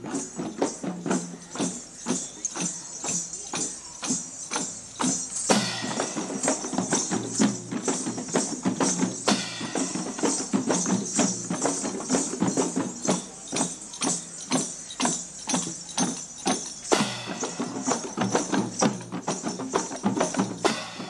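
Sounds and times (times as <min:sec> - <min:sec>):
jingling metal: 0:00.0 - 0:21.0
marching drum beat: 0:00.0 - 0:21.0.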